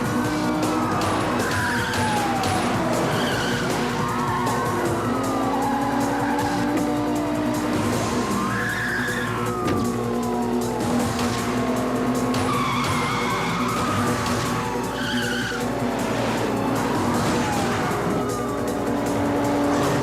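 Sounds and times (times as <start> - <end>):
car engines revving: 0.0 - 20.0
film music score: 0.0 - 20.0
tyres skidding: 0.0 - 20.0.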